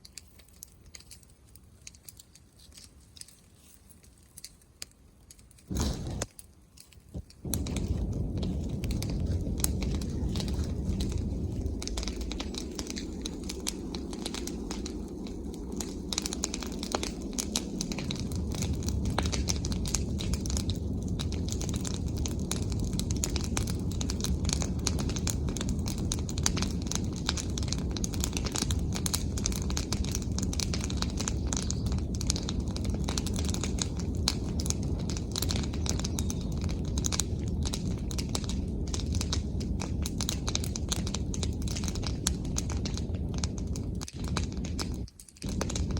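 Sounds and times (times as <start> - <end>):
bonfire crackling and snapping: 0.0 - 45.9
burning leaves popping: 0.0 - 45.9
flames rushing: 0.0 - 45.9.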